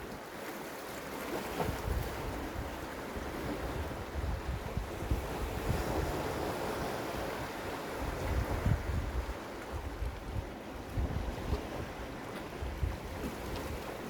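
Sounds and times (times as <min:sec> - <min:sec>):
wind buffeting microphone: 0:01.5 - 0:14.0.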